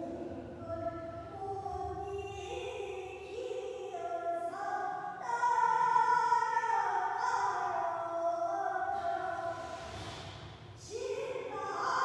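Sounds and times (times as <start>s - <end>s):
woman singing long held notes: 0.0s - 9.8s, 10.8s - 12.0s.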